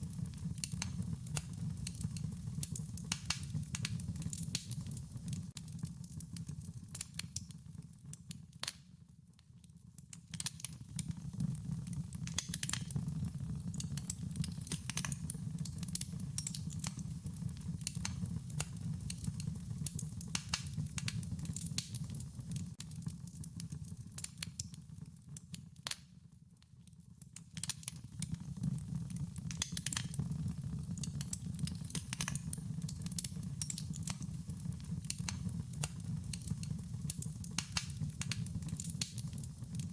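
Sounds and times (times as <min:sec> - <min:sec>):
wood fire crackling: 0:00.0 - 0:26.2, 0:27.2 - 0:39.9.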